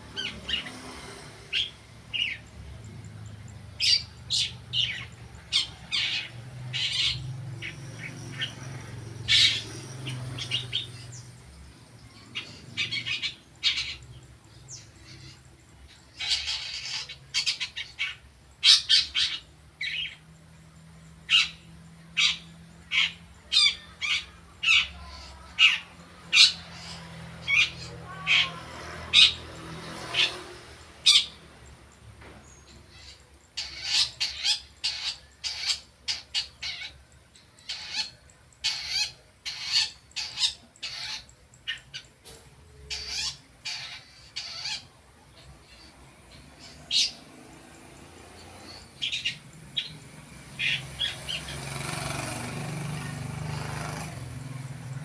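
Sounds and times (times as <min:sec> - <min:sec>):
shrike calling: 0:00.0 - 0:55.0.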